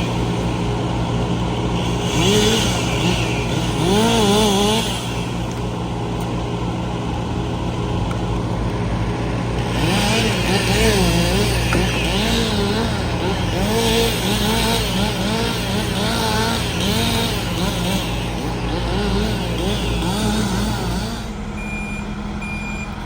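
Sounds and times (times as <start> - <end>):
engine rising and falling in pitch: 0.0 - 23.0
large engine running: 0.0 - 23.0.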